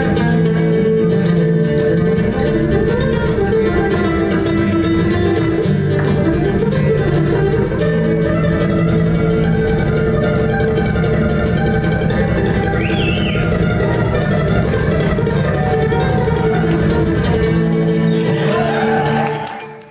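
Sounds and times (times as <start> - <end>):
flamenco guitar playing: 0.0 - 19.9.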